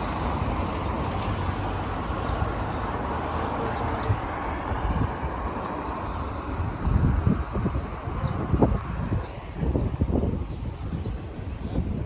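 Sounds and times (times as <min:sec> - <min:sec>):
outdoor background rumble: 0:00.0 - 0:12.0
wind buffeting microphone: 0:00.0 - 0:12.0.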